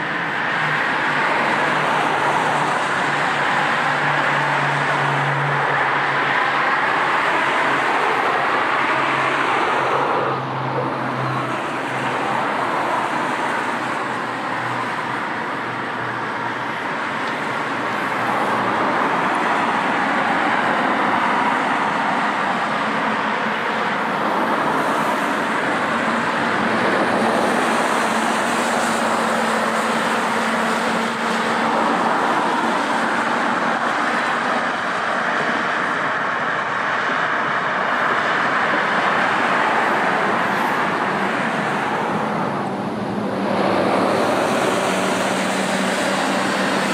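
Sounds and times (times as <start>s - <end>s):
steady engine noise: 0.0s - 46.9s.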